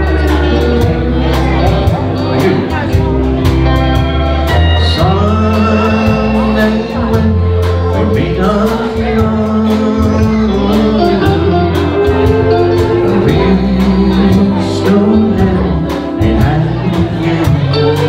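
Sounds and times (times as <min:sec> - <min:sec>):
country band playing ballad: 0:00.0 - 0:18.0
pedal steel guitar: 0:00.0 - 0:18.0.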